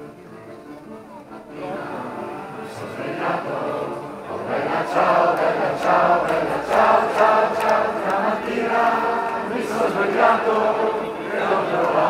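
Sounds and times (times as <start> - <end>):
crowd singing in unison: 1.5 - 12.0.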